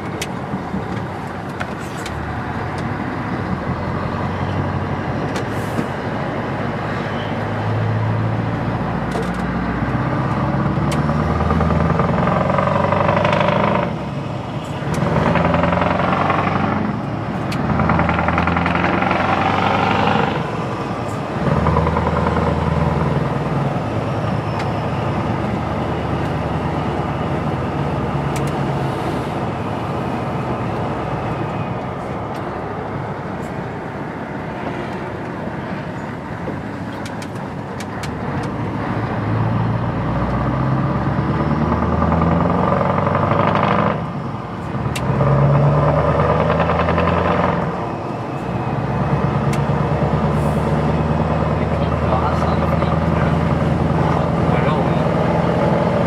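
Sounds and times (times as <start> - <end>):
diesel truck engine accelerating: 0.0 - 56.0.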